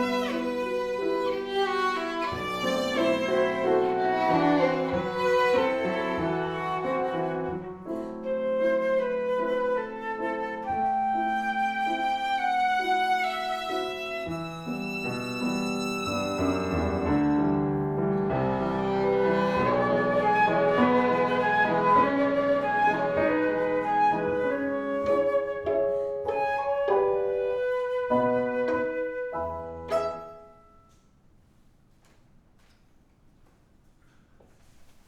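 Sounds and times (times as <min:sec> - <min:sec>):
instrumental trio playing: 0:00.0 - 0:30.6.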